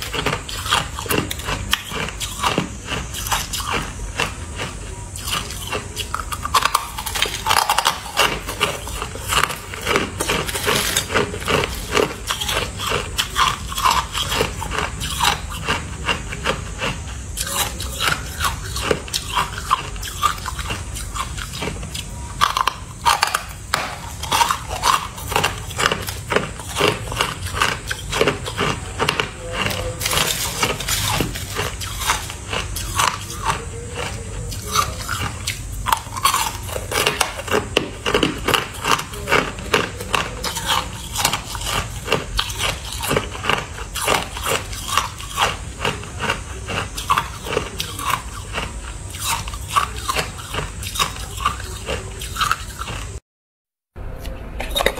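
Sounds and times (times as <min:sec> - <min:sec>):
chewing ice crunches: 0:00.0 - 0:53.2.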